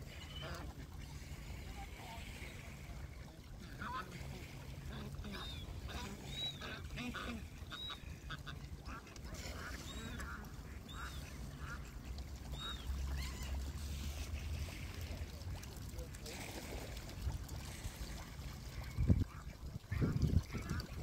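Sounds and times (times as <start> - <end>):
ducks quacking: 0.0 - 15.2, 17.6 - 21.0.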